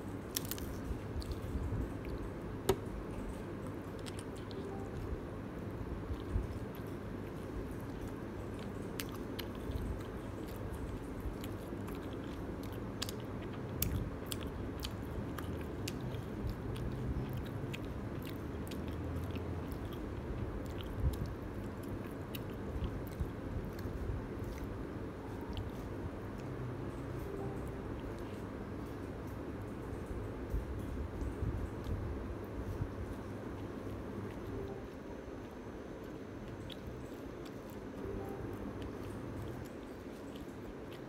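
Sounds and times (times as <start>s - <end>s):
chewing crunchy pizza: 0.0s - 41.0s.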